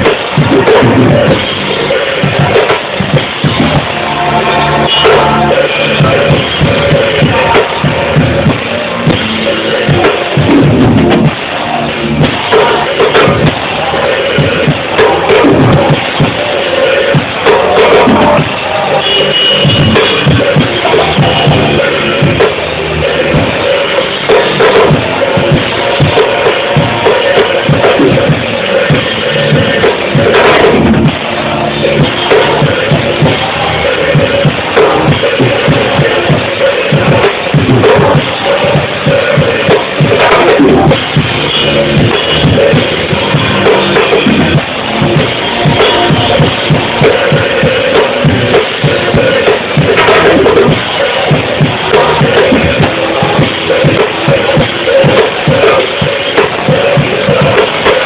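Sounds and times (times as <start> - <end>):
drum kit beat: 0.0 - 58.0
praise band music: 0.0 - 58.0.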